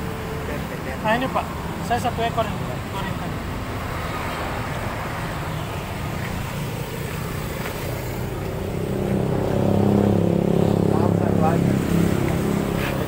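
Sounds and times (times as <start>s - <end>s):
road traffic: 0.0s - 13.0s
vehicle engine approaching: 0.0s - 13.0s.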